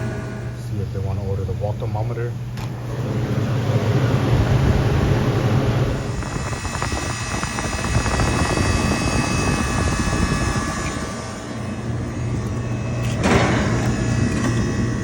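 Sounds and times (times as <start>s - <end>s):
faint high whine: 0.0s - 15.0s
refrigeration unit humming: 0.0s - 15.0s.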